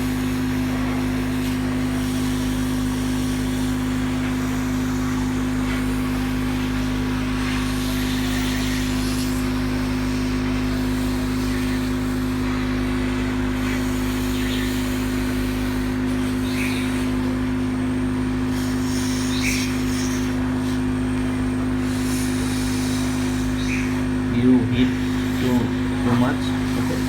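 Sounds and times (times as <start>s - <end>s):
hot-air blower motor hum: 0.0s - 27.0s.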